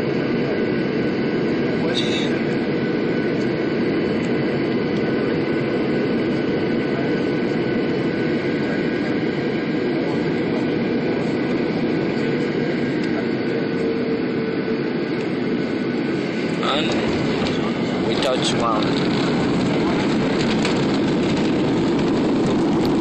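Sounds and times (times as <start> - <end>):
airplane engines and airflow: 0.0 - 23.0.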